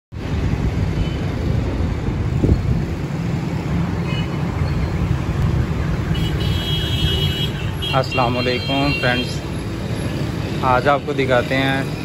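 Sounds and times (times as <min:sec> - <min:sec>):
road traffic rumble: 0:00.1 - 0:12.0.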